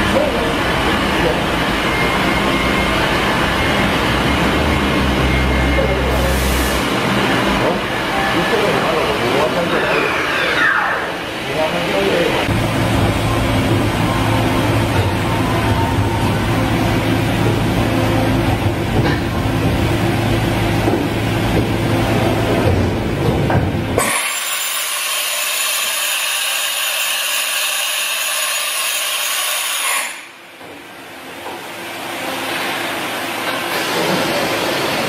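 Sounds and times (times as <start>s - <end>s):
machine motor and pump hum: 0.0s - 35.0s.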